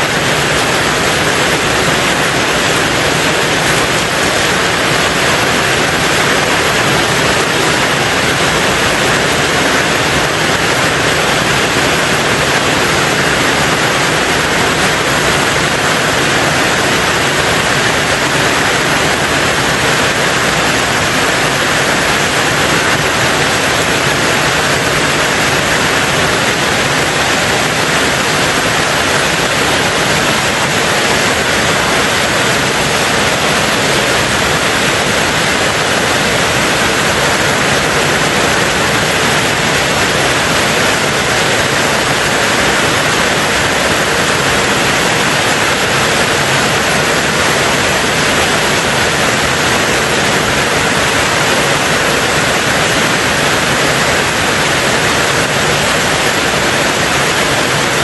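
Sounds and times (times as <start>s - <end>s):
heavy rain on a tin roof: 0.0s - 58.0s.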